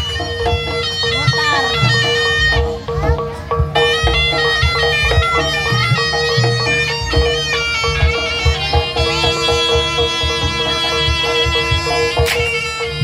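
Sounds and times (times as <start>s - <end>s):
drum strokes: 0.0s - 13.0s
reedy shawm melody: 0.0s - 13.0s.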